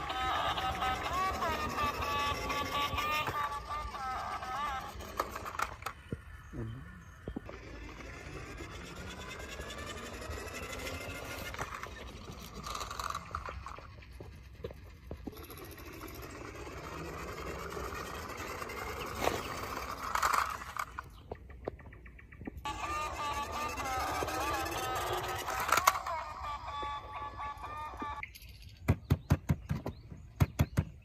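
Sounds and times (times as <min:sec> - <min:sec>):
toy vehicle motor whirring: 0:00.0 - 0:21.4, 0:22.6 - 0:28.5.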